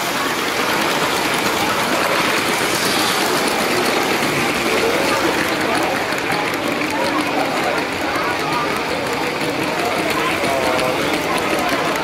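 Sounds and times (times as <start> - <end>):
crowd hubbub: 0.0 - 12.0
toy train rolling on track: 0.0 - 12.0.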